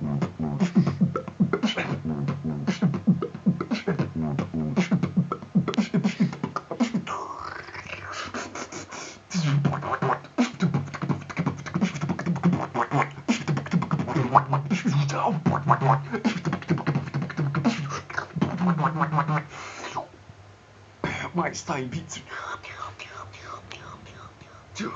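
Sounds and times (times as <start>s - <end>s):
vocal beatboxing: 0.0s - 20.2s.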